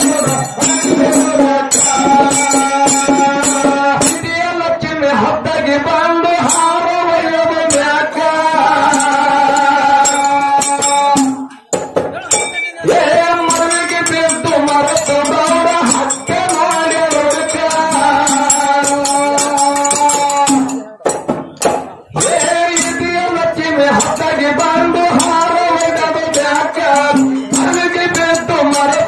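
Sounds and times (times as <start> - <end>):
rattle-like percussion: 0.0 - 4.5, 6.2 - 29.0
man singing folk song: 0.0 - 21.0, 22.1 - 29.0.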